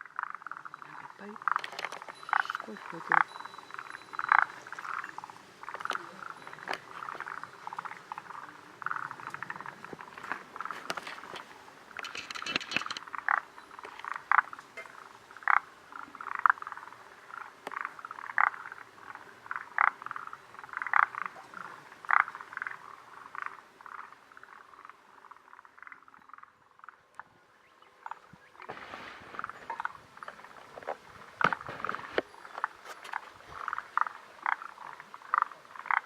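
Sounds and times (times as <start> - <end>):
frogs croaking: 0.0 - 36.0.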